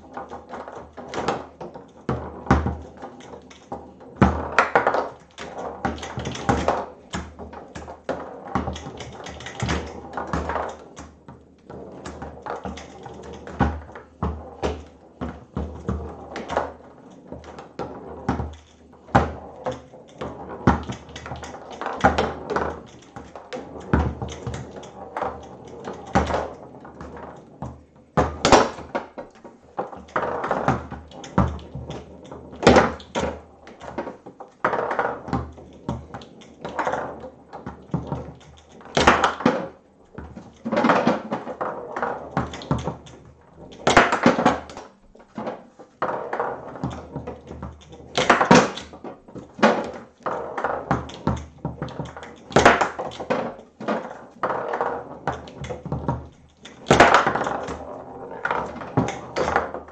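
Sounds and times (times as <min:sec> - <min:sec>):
ball rolling and rattling: 0:00.0 - 0:59.9
foosball ball clacking: 0:00.0 - 0:59.9.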